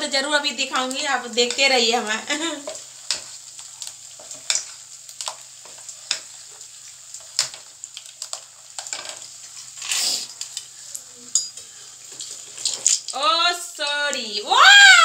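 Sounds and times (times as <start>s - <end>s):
batter sizzling in oil: 0.0s - 15.0s.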